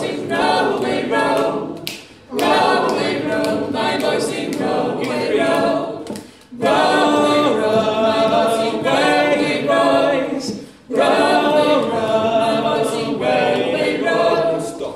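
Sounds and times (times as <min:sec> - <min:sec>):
voices singing in harmony: 0:00.0 - 0:14.9.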